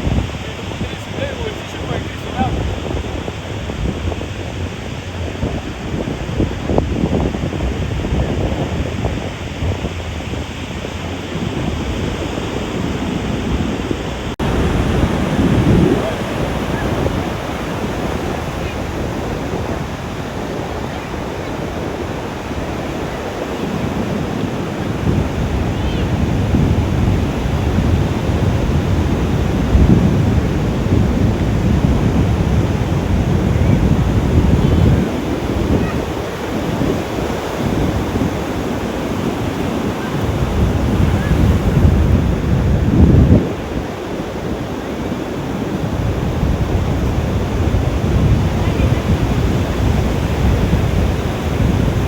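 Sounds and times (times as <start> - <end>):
ocean waves washing on beach: 0.0 - 52.0
wind buffeting microphone: 0.0 - 52.0.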